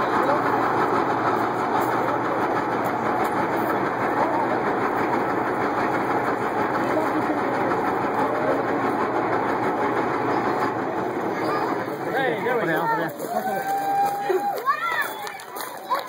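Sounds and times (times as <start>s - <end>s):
steel tracks clattering on pavement: 0.0s - 16.0s
tank engine running: 0.0s - 16.0s.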